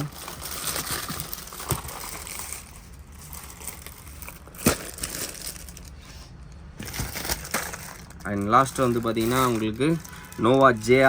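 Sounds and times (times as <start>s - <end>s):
packaging crinkling: 0.0s - 6.0s, 6.8s - 11.0s.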